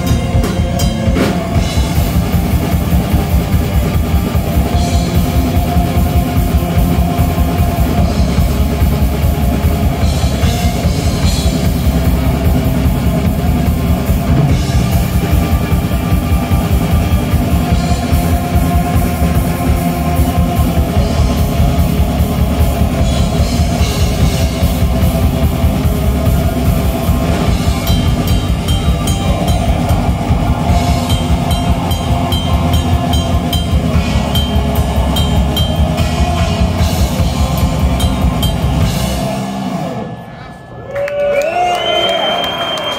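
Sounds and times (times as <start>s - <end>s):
rapid drum kit: 0.0s - 40.2s
distorted electric guitars: 0.0s - 40.8s.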